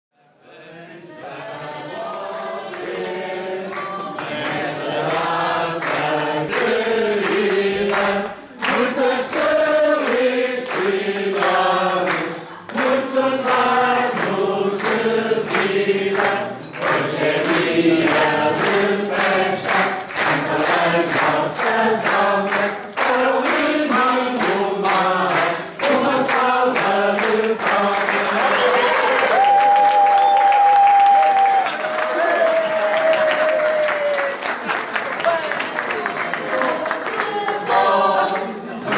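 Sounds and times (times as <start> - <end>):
group singing unaccompanied: 0.2 - 29.0, 36.4 - 38.9.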